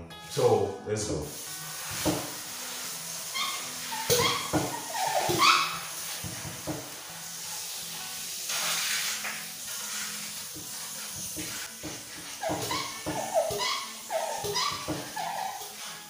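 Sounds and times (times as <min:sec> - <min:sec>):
pump sprayer hissing: 0:01.3 - 0:16.0.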